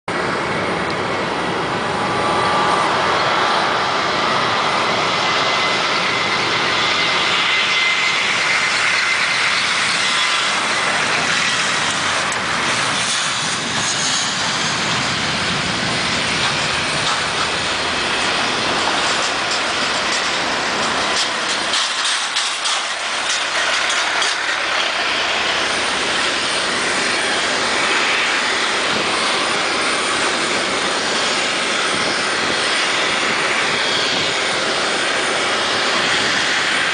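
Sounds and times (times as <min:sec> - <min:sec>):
high jet whine: 0:00.1 - 0:36.9
jet engine roar: 0:00.1 - 0:36.9.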